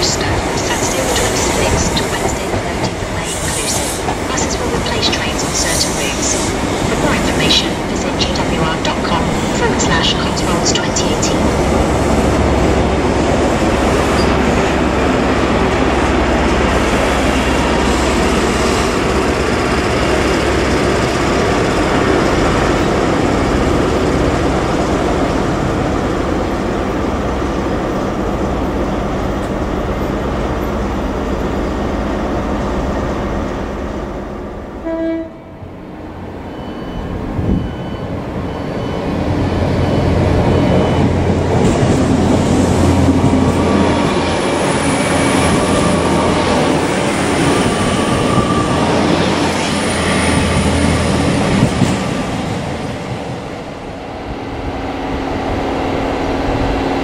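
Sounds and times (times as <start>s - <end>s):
approaching train rumble: 0.0s - 57.0s
train coaches rumbling over rails: 0.0s - 57.0s.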